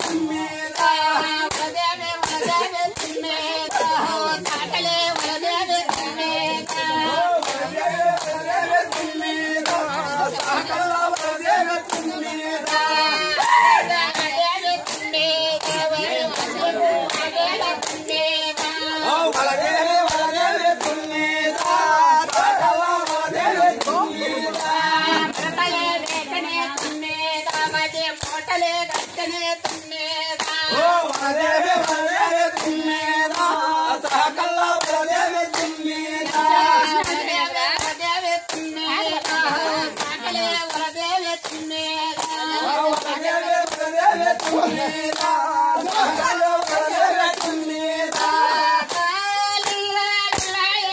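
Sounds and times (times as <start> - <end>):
group of people singing: 0.0 - 50.9
hands clapping to a beat: 0.0 - 50.9.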